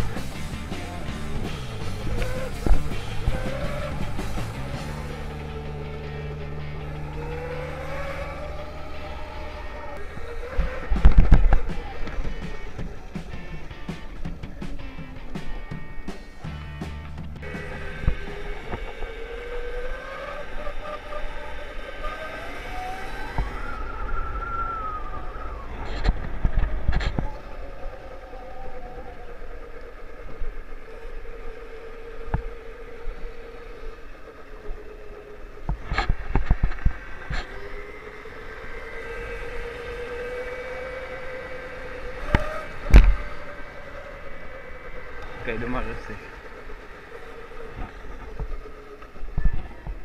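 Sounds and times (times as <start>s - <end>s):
electric moped motor whining: 0.0s - 50.0s.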